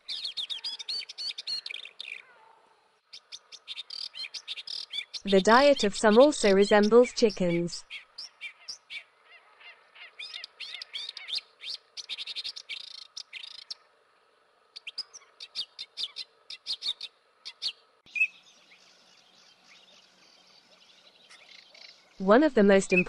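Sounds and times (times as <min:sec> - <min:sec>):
faint steady hiss: 0:00.0 - 0:23.0
small birds chirping: 0:00.0 - 0:23.0.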